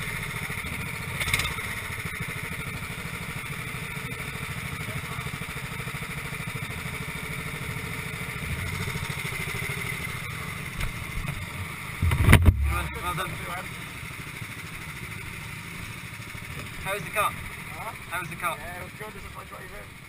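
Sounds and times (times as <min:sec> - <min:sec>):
kart engines idling: 0:00.0 - 0:20.0.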